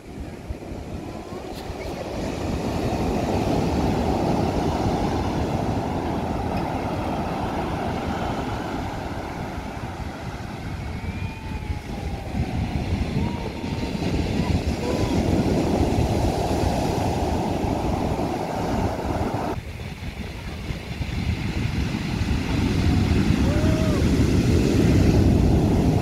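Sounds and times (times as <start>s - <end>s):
waves breaking on beach: 0.0s - 26.0s.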